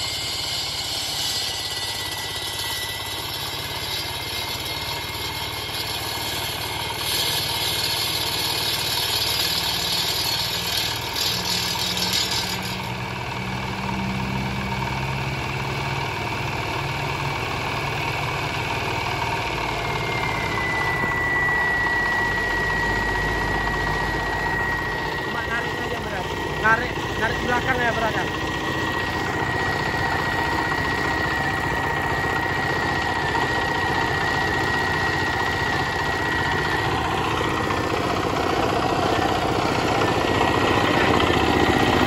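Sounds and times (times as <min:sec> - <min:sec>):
diesel engine running: 0:00.0 - 0:42.0
high blade whine: 0:00.0 - 0:42.0.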